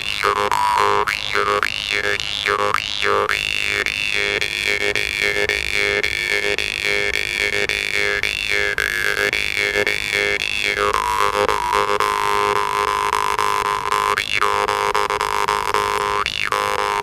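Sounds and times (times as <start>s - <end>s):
jaw harp drone: 0.0s - 17.0s.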